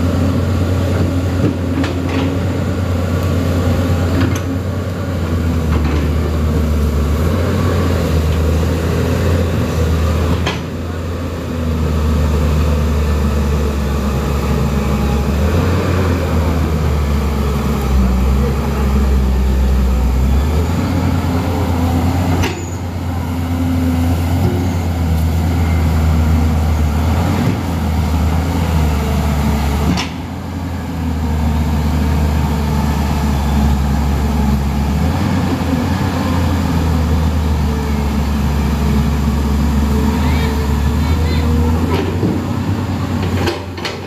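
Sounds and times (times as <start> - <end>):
excavator diesel engine: 0.0 - 44.0.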